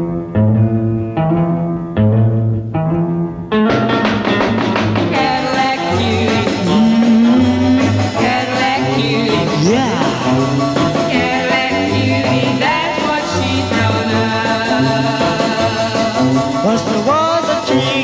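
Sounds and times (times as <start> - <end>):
rock and roll music: 0.0 - 18.0.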